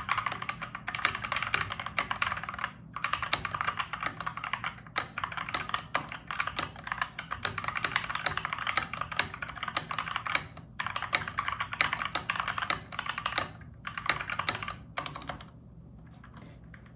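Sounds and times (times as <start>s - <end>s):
fast typing on mechanical keyboard: 0.0s - 15.5s.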